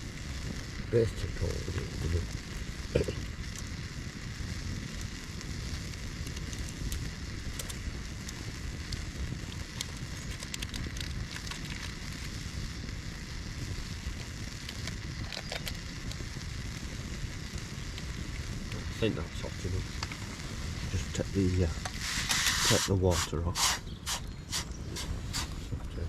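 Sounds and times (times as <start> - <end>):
campfire crackling and popping: 0.0 - 26.0
low hiss of heating water: 0.0 - 26.0.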